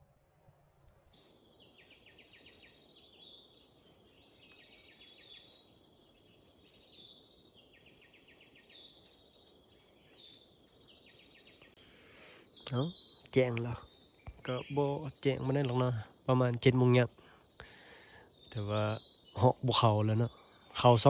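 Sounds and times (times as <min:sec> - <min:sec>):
birds chirping: 0:01.0 - 0:21.0.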